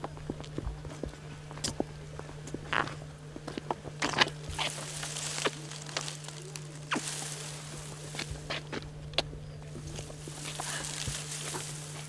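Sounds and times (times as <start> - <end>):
steady low hum: 0.0 - 12.0
hissing rustles: 1.0 - 12.0.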